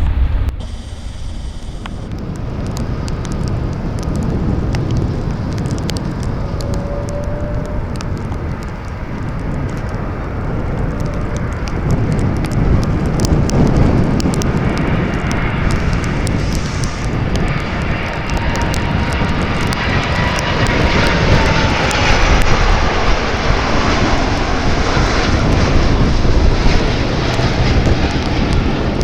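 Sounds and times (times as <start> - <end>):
jet airliner engines roaring: 0.0 - 29.0.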